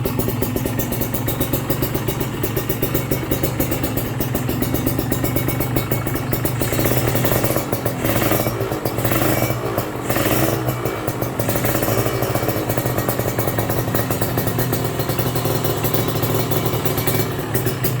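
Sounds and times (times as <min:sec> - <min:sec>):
motorcycle throttle blips: 0:00.0 - 0:18.0
two-stroke motorcycle engine running: 0:00.0 - 0:18.0.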